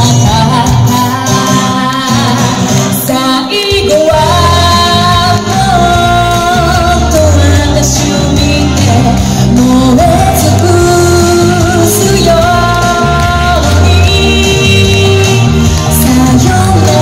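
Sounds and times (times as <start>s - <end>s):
amplified backing music: 0.0s - 17.0s
woman singing: 0.0s - 17.0s.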